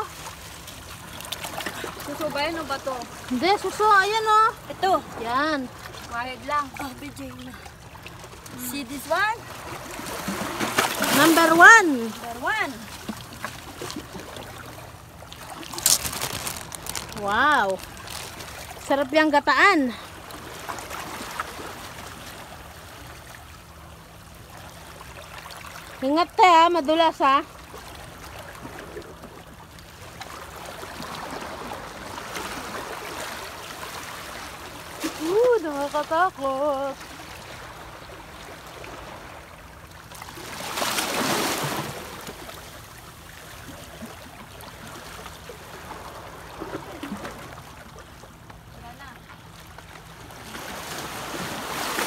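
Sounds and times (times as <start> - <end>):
rush of water: 0.0 - 52.0
small waves lapping on rocks: 0.0 - 52.0.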